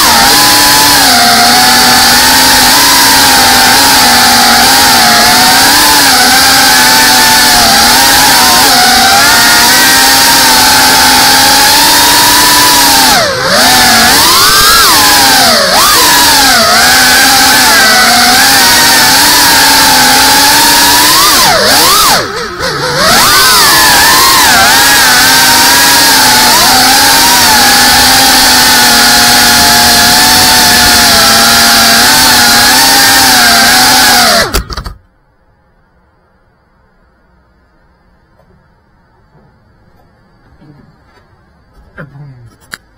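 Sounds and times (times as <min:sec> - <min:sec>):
drone motors whining: 0:00.0 - 0:35.1.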